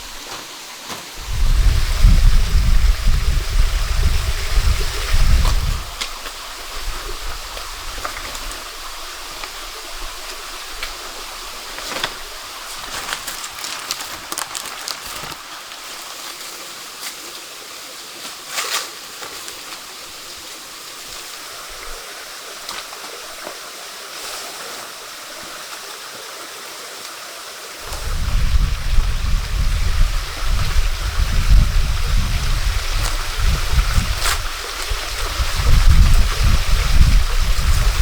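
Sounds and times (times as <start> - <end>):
running water: 0.0 - 38.0.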